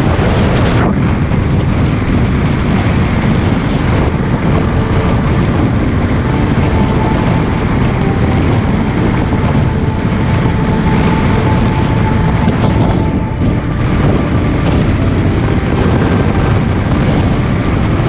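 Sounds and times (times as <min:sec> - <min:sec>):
vehicle rumbling in motion: 0:00.0 - 0:18.0
faint steady tones: 0:01.6 - 0:18.0.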